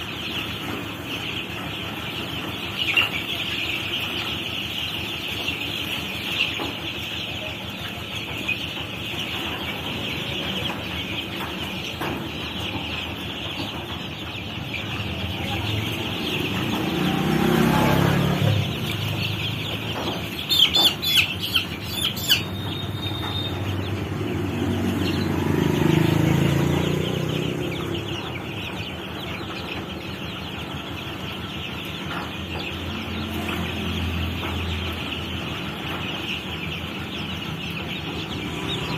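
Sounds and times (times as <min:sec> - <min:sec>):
chicks peeping: 0:00.0 - 0:38.9
loud sharp calls: 0:00.0 - 0:38.9.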